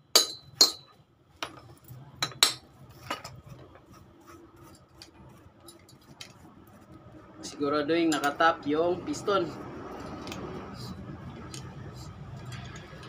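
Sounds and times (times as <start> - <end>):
clinking and rubbing of metal parts: 0.1 - 7.0, 7.9 - 8.6, 9.2 - 13.0.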